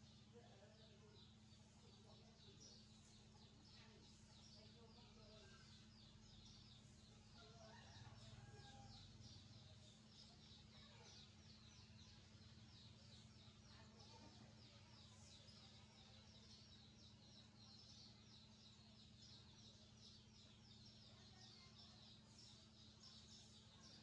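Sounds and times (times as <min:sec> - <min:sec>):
steady low hum: 0:00.0 - 0:24.0
young birds chirping: 0:00.0 - 0:24.0.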